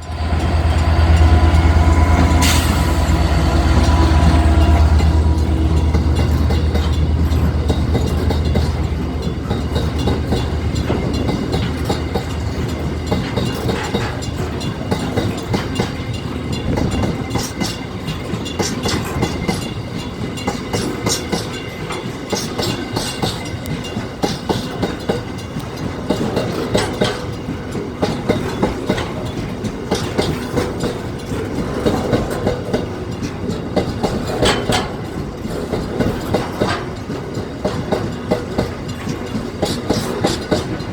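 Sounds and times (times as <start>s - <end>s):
diesel locomotive rumble: 0.0s - 40.9s
wheels clacking over rail joints: 0.0s - 40.9s.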